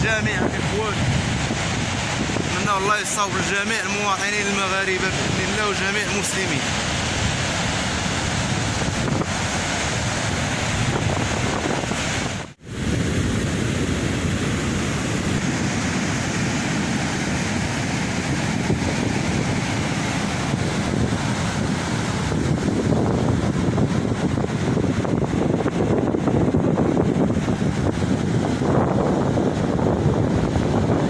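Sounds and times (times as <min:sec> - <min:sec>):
sea surf breaking: 0:00.0 - 0:31.0
wind buffeting microphone: 0:00.0 - 0:31.0.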